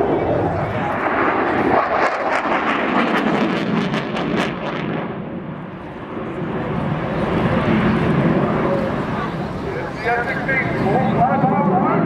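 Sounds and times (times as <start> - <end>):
jet engine roar with crackling rasp: 0.0 - 12.0.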